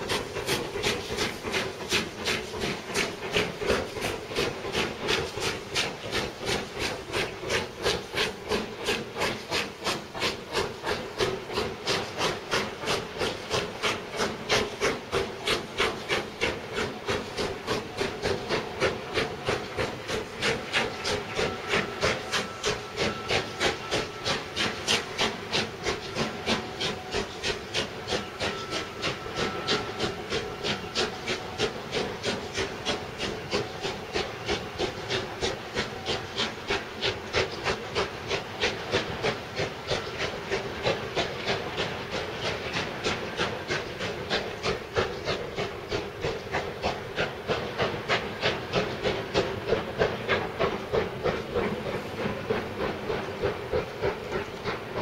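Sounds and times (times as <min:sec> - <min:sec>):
steam locomotive chuffing: 0:00.0 - 0:55.0.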